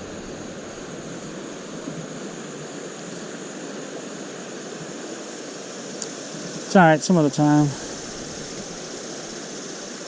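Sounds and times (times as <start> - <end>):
creek water rushing over rocks: 0.0 - 10.0.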